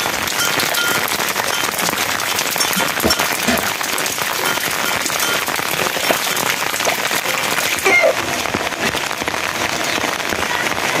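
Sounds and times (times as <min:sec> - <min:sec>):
heavy rain on ground and roof: 0:00.0 - 0:11.0.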